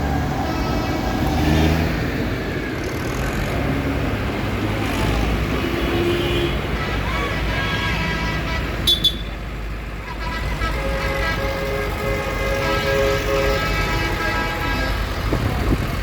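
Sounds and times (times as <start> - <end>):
tractor engines driving past: 0.0 - 16.0.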